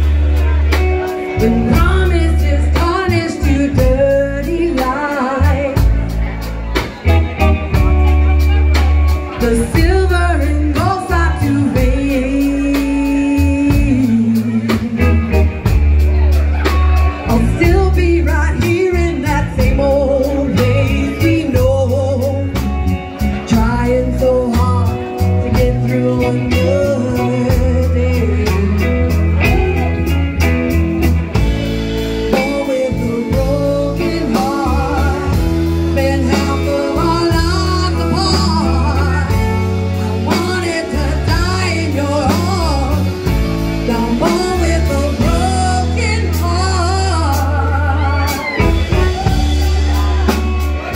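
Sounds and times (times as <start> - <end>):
drums: 0.0 - 50.9
electric bass: 0.0 - 50.9
electric guitar: 0.0 - 50.9
woman singing: 1.2 - 6.4, 8.4 - 15.4, 16.7 - 30.2, 31.6 - 50.9.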